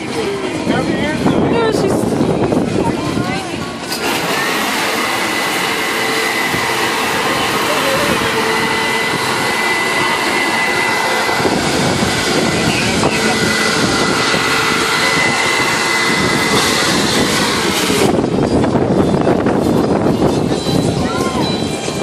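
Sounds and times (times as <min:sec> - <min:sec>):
electric blower running: 0:01.3 - 0:21.0.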